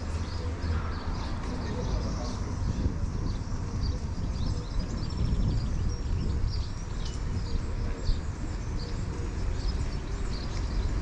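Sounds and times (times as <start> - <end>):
low rumble of street ambience: 0.0 - 11.0
small birds chirping: 0.0 - 11.0.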